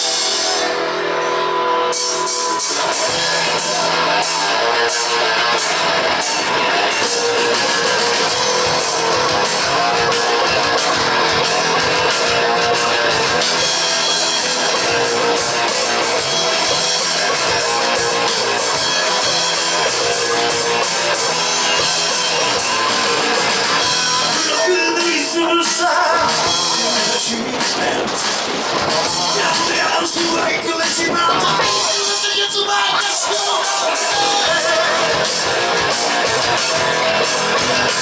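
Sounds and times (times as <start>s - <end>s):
drum kit playing: 0.0s - 38.0s
guitar strumming: 0.0s - 38.0s.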